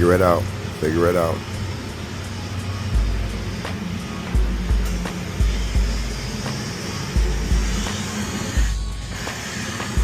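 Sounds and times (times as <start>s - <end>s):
music with deep bass beat: 1.3s - 10.0s.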